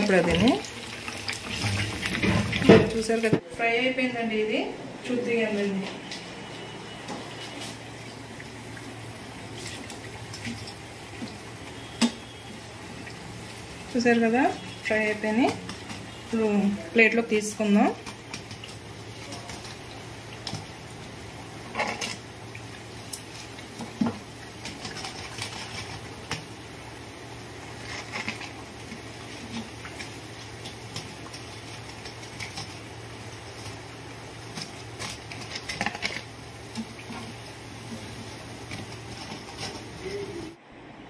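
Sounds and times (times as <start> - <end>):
food frying in hot oil: 0.0 - 3.4, 7.1 - 40.6.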